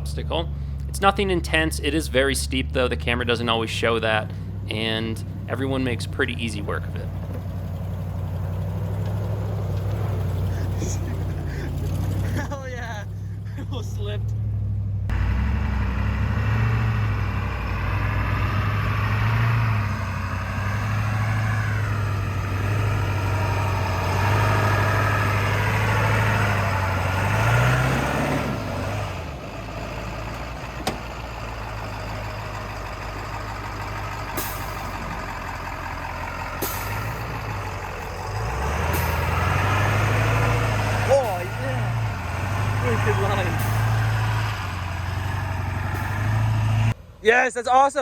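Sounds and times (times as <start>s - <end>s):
off-road vehicle engine: 0.0s - 48.0s.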